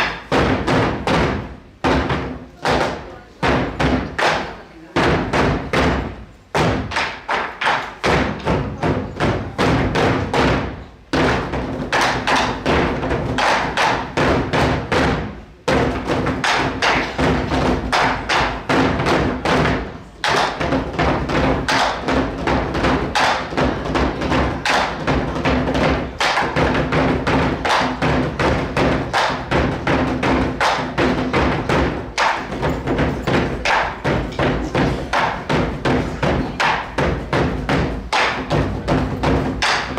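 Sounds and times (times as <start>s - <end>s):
drummers beating drums: 0.0s - 39.9s.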